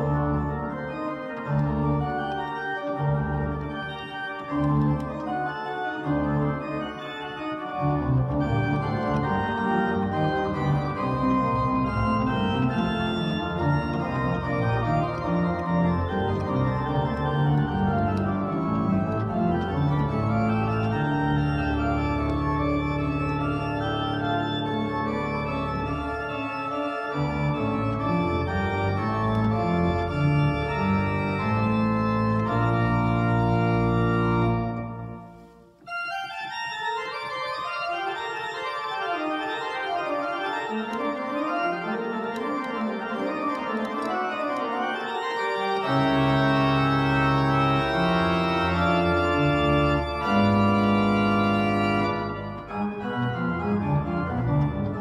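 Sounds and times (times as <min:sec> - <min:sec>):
deep organ bass notes: 0:00.0 - 0:35.2, 0:45.8 - 0:55.0
church organ chords: 0:00.0 - 0:55.0.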